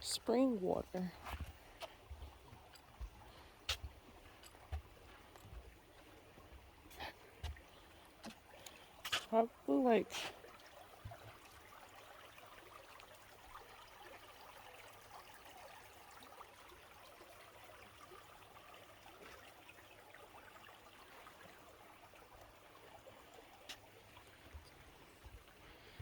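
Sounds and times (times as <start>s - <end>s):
trickle of running water: 0.0s - 26.0s.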